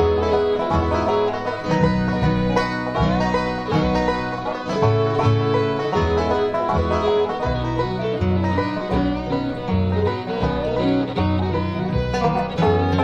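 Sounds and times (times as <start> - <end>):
acoustic guitar: 0.0 - 13.0
bass line: 0.0 - 13.0
picked banjo: 0.0 - 13.0.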